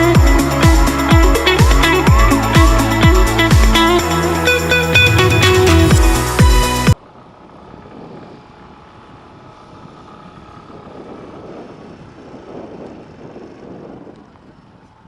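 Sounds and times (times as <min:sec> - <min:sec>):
motorcycle riding on road: 0:00.0 - 0:15.0
wind on microphone: 0:00.0 - 0:15.0.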